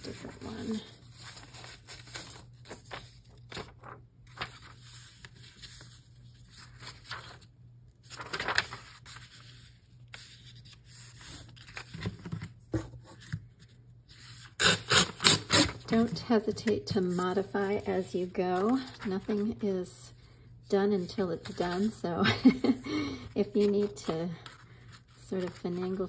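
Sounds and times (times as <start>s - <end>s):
paper rustling and shuffling: 0.0s - 14.6s, 15.8s - 19.8s, 21.0s - 26.0s.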